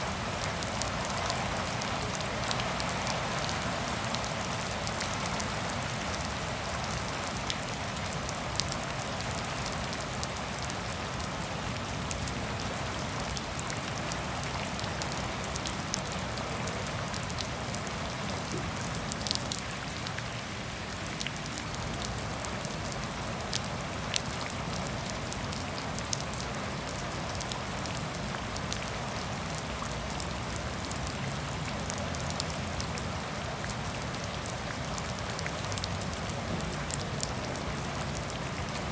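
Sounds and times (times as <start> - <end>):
raindrops ticking close by: 0.0 - 38.9
steady rain falling: 0.0 - 38.9.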